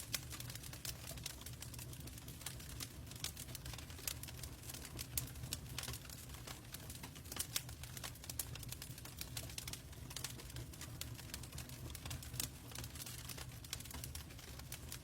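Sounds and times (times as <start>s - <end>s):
log fire crackling: 0.0s - 15.0s.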